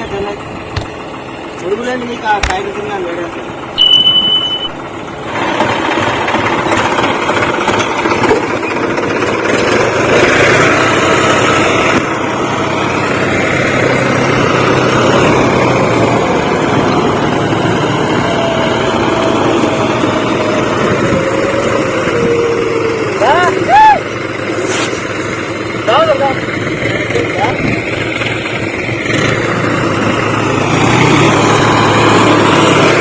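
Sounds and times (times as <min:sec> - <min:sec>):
diesel tractor engines running: 0:00.0 - 0:33.0.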